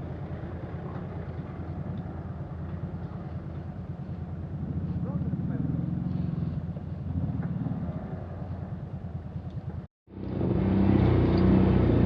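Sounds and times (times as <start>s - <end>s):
off-road vehicle engine droning: 0.0s - 12.0s.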